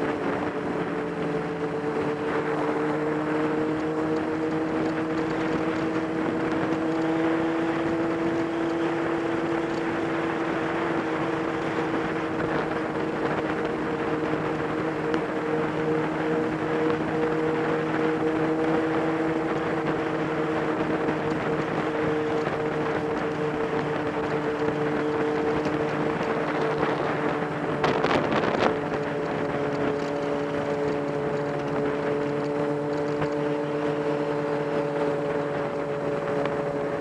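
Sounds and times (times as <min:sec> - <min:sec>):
motorcycle engine cruising: 0:00.0 - 0:37.0
wind noise: 0:00.0 - 0:37.0.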